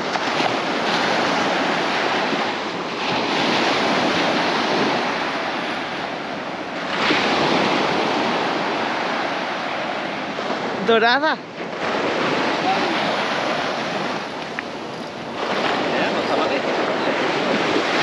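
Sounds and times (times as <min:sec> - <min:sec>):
waves washing up a beach: 0:00.0 - 0:18.0.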